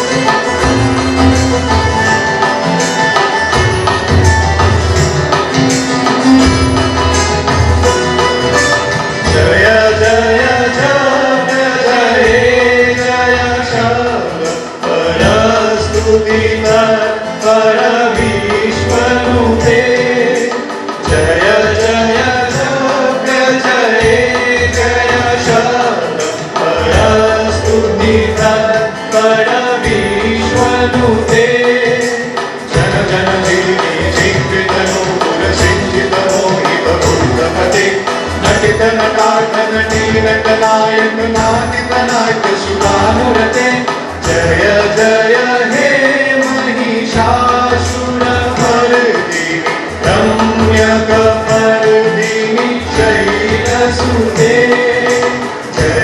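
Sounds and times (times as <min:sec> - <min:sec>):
guitar: 0:00.0 - 0:56.0
heavy percussion beats: 0:00.0 - 0:56.0
keyboard: 0:00.0 - 0:56.0
men singing a hymn: 0:09.3 - 0:56.0.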